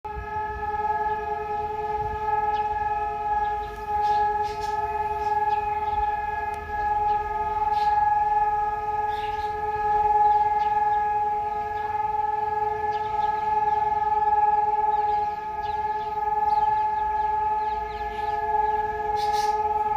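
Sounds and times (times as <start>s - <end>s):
steady siren wail: 0.0s - 19.9s.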